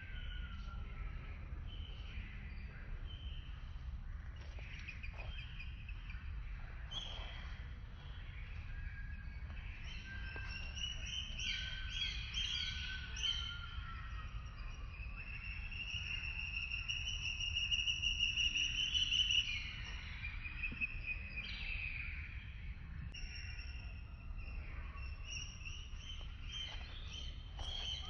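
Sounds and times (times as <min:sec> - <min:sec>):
bird calls: 0:00.0 - 0:22.5, 0:23.1 - 0:28.0.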